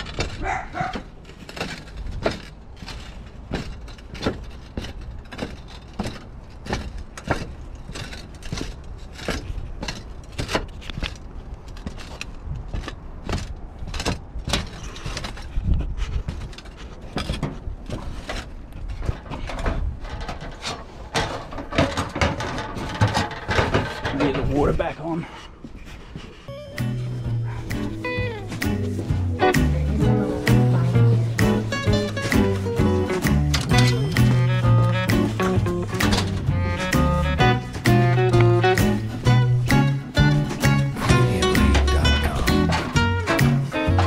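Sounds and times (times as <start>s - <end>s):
roof tiles knocking underfoot: 0.0s - 44.0s.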